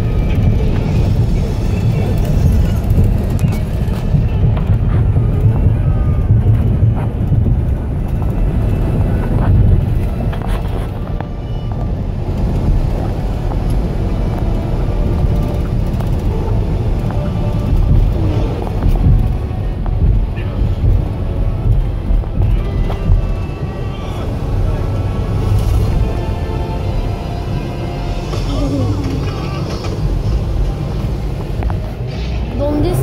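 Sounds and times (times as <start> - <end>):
road and engine rumble in cabin: 0.0 - 33.0.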